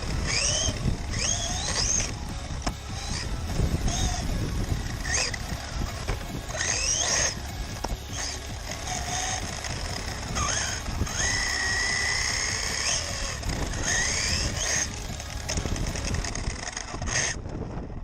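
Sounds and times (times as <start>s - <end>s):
rc car motor whining: 0.0s - 17.8s
tyre and ground noise: 0.0s - 18.0s.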